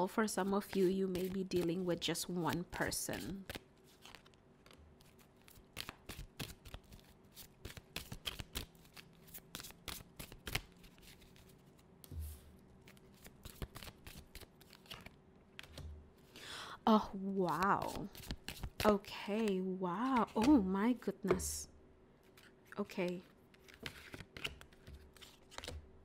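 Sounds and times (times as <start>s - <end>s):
cards being shuffled: 0.4s - 15.9s, 17.5s - 20.7s, 22.2s - 25.9s.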